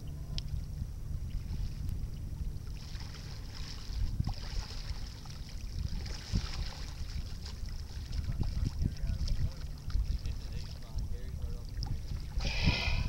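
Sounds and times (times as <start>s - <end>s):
water lapping against hull: 0.0s - 13.0s
wind rumbling on microphone: 0.0s - 13.0s.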